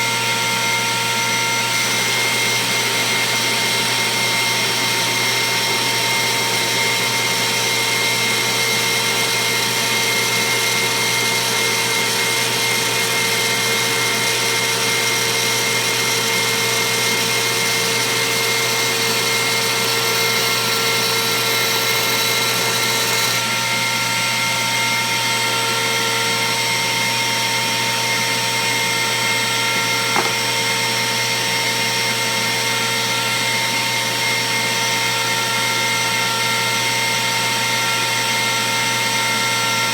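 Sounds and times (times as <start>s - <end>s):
router motor whining: 0.0s - 39.9s.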